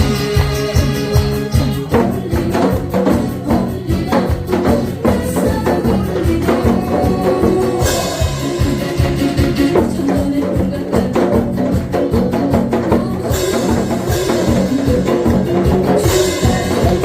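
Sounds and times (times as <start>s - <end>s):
upbeat backing music: 0.0s - 17.0s.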